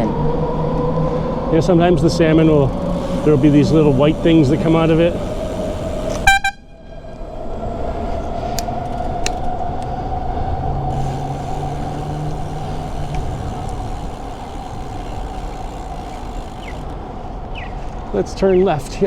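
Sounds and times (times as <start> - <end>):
steady high whine: 0.0 - 18.2
heavy vehicle rumble passing: 0.0 - 19.0
street traffic: 0.0 - 19.0.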